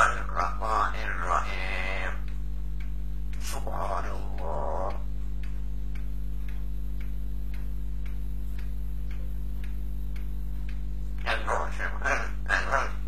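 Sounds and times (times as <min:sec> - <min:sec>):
low electrical hum: 0:00.0 - 0:13.0
regular ticking: 0:00.0 - 0:13.0.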